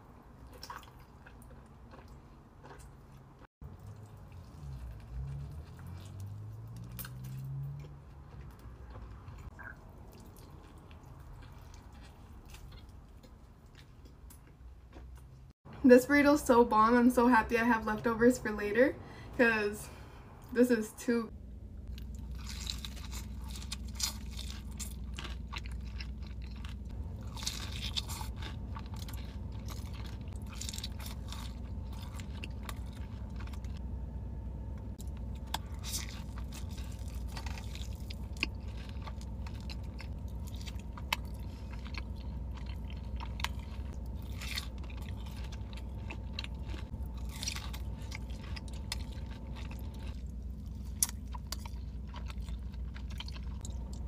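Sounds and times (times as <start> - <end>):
steady low hum: 0.0 - 54.0
crunchy bites and wet chewing: 0.3 - 15.3, 21.8 - 33.8, 34.8 - 54.0.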